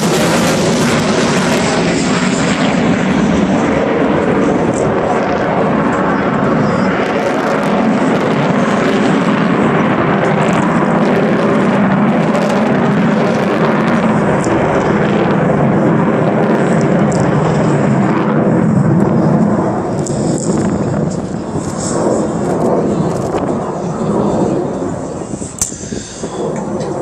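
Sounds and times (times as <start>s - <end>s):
jet bomber flypast: 0.0s - 27.0s.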